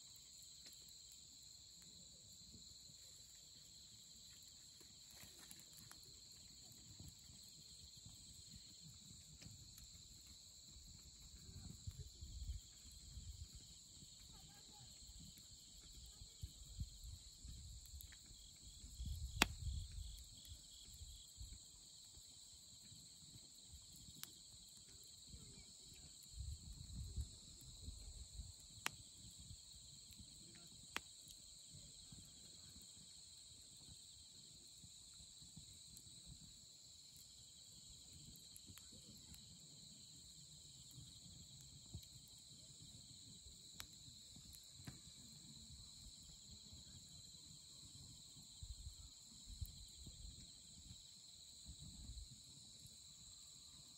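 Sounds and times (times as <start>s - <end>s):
campfire crackling and popping: 0.0s - 48.5s
night insects chorus: 0.0s - 53.9s.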